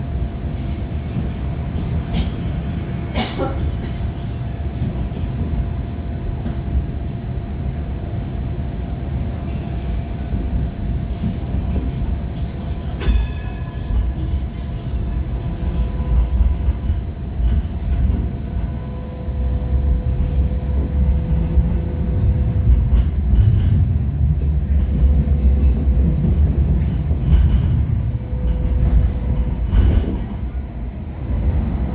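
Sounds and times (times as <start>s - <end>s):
train wheels rumbling on rail: 0.0s - 31.9s
faint whining tones: 4.2s - 31.9s.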